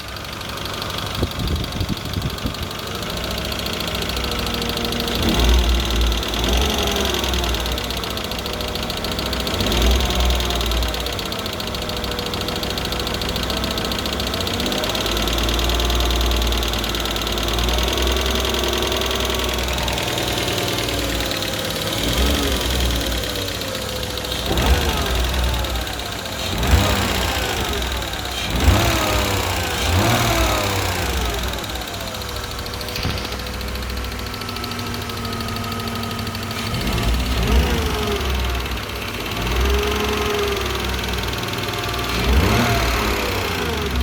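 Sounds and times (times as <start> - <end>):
engine knocks: 0.0 - 44.0
engine running: 0.0 - 44.0.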